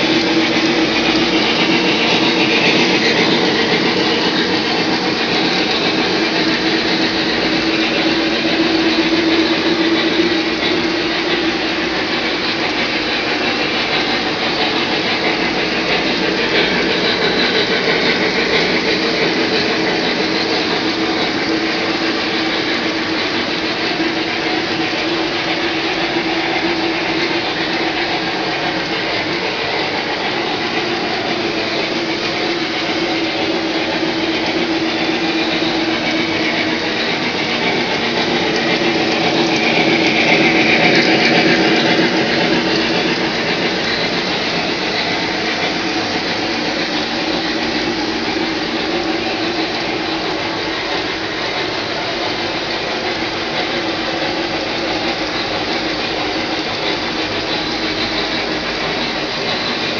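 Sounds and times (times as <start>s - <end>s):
model train wheels rumbling: 0.0s - 59.9s.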